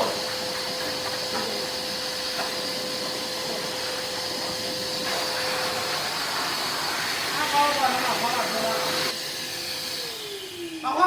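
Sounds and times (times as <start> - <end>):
vacuum cleaner motor running: 0.0 - 11.0.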